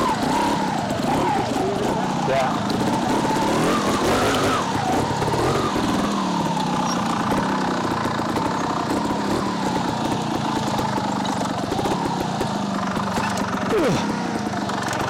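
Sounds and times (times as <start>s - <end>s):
two-stroke engine at low revs: 0.0s - 15.0s.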